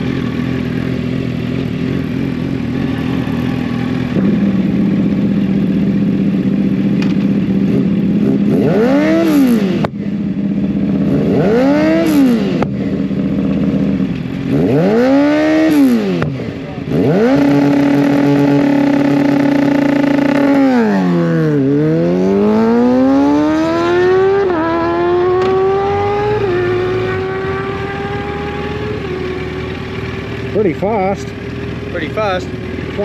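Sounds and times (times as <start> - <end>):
motorcycle revving and accelerating: 0.0 - 33.0.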